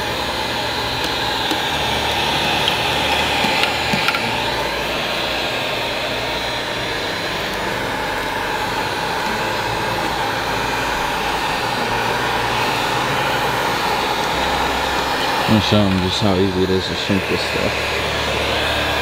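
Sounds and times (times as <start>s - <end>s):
heat gun blowing: 0.0s - 19.0s.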